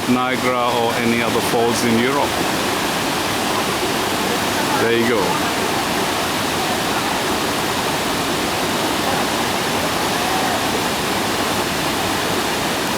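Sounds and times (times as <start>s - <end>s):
waterfall roaring over rocks: 0.0s - 12.9s.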